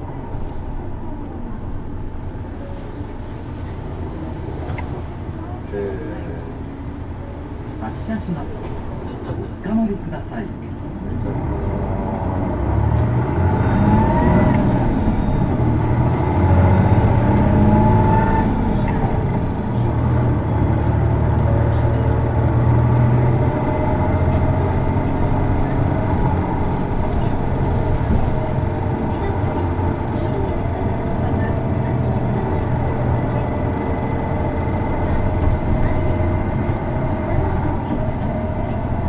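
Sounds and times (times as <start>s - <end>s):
bus diesel engine drone: 0.0s - 39.0s.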